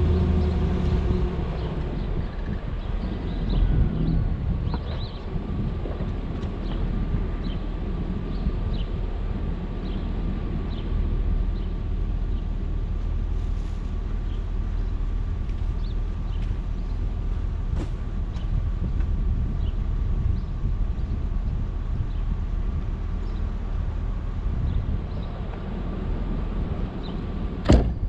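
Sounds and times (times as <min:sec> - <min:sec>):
truck engine rumble: 0:00.0 - 0:28.0.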